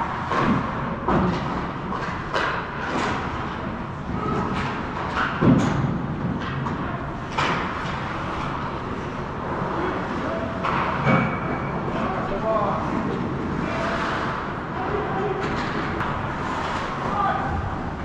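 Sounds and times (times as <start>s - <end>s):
steady background noise: 0.0s - 18.0s
hockey sticks and puck clacking: 0.2s - 14.5s, 15.4s - 17.6s.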